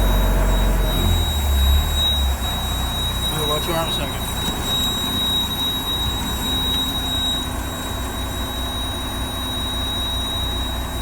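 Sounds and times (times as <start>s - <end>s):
high-pitched whine: 0.0s - 11.0s
truck engine rumble: 0.0s - 11.0s.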